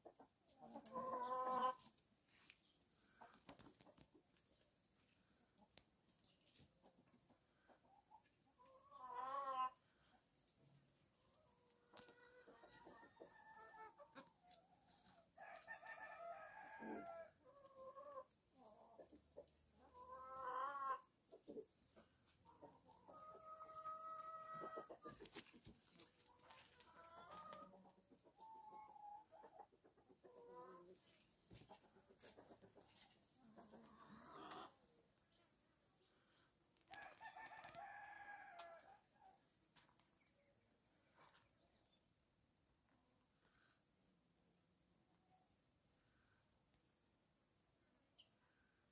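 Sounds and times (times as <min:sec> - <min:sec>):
chickens clucking and crowing: 0:00.0 - 0:42.0.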